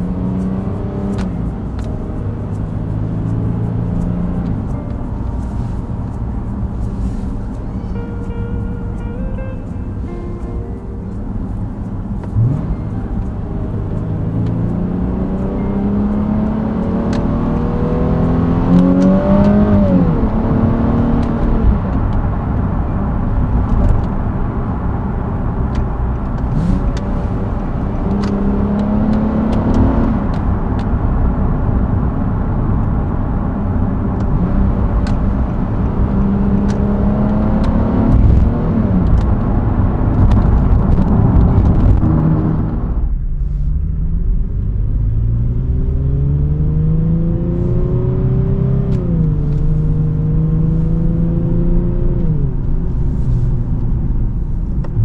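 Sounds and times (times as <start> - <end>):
car engine under light throttle: 0.0 - 55.0
road and tyre noise: 0.0 - 55.0.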